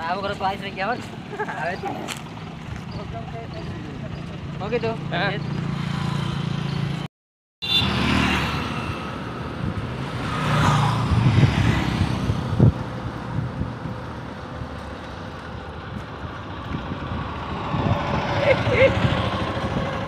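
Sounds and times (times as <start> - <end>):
passing traffic: 0.0 - 20.0
road noise: 0.0 - 20.0.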